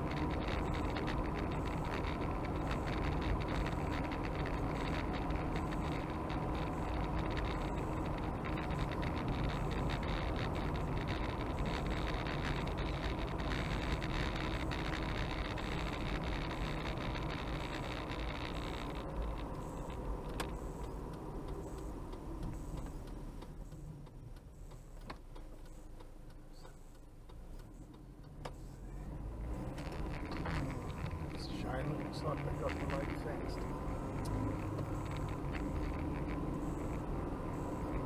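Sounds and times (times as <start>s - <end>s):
car engine and tyre rumble: 0.0s - 38.0s
faint clicks: 0.0s - 38.0s.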